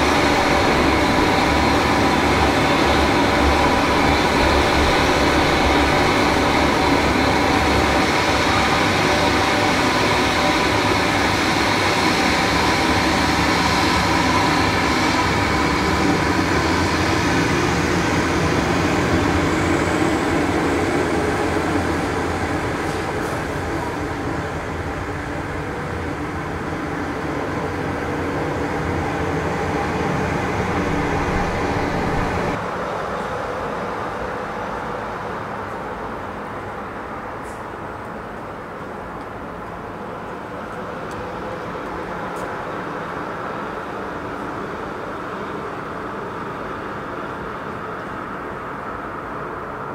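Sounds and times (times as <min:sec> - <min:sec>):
turboprop engines running: 0:00.0 - 0:49.9.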